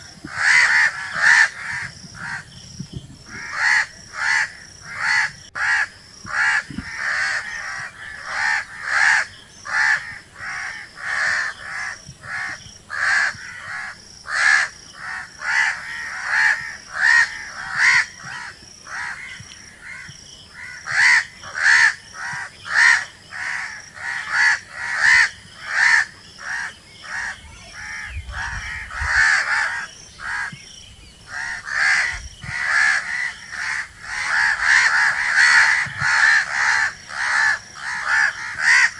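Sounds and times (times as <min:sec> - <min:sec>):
crows cawing: 0:00.3 - 0:02.5, 0:03.3 - 0:30.6, 0:31.3 - 0:38.9.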